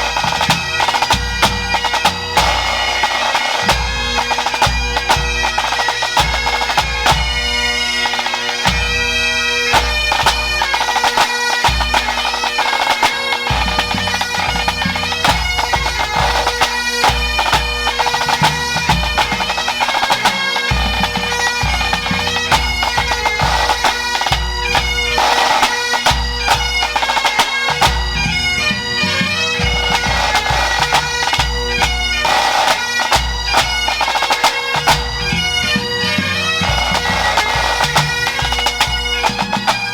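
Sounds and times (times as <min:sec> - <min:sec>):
snare drum strokes: 0:00.0 - 0:07.4, 0:09.7 - 0:28.0, 0:29.8 - 0:35.3, 0:36.6 - 0:39.9
bagpipes playing a tune: 0:00.0 - 0:39.9.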